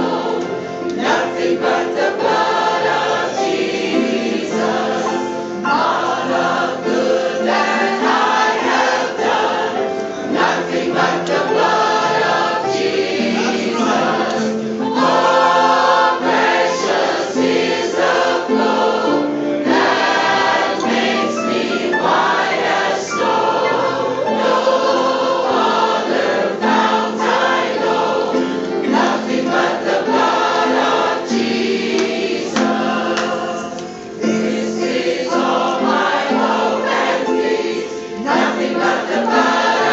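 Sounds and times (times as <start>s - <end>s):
choir singing gospel song: 0.0s - 39.9s.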